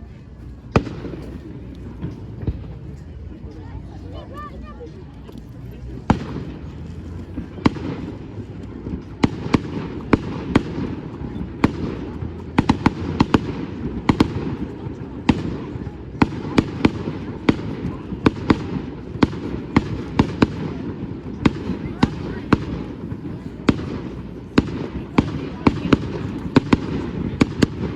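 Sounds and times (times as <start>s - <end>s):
fireworks bangs: 0.7s - 3.0s, 6.1s - 27.9s.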